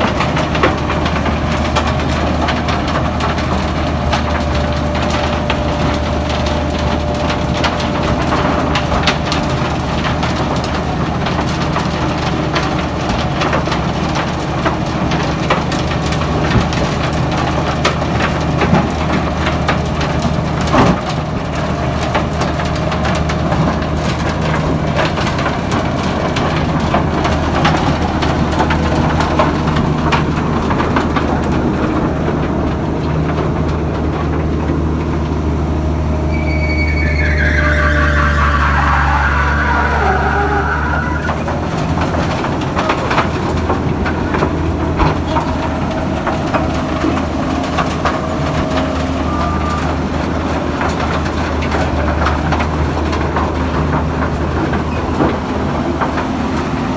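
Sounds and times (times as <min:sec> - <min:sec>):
low diesel drone: 0:00.0 - 0:56.9.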